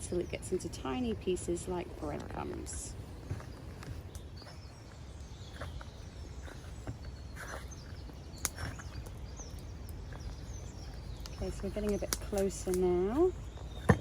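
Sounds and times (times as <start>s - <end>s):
soft rustles: 0.0s - 14.0s
wind rumble: 0.0s - 14.0s
faint bird chirps: 2.0s - 14.0s.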